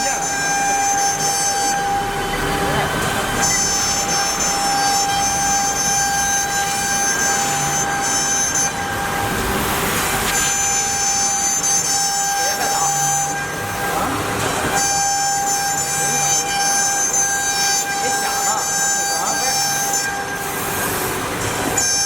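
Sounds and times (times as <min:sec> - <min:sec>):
router cutting wood: 0:00.0 - 0:22.0
router spindle whine: 0:00.0 - 0:22.0.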